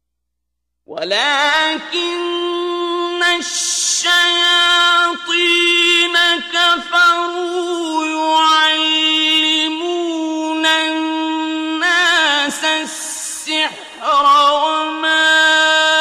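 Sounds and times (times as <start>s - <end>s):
man reciting melodically: 0.9s - 16.0s.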